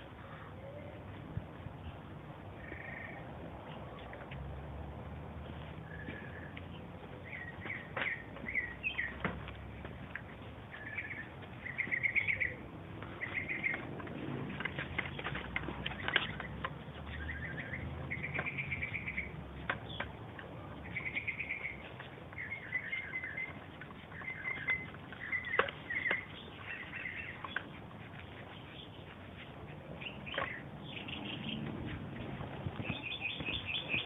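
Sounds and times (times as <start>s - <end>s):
small birds chirping in trills: 0.0s - 4.5s, 5.1s - 34.0s.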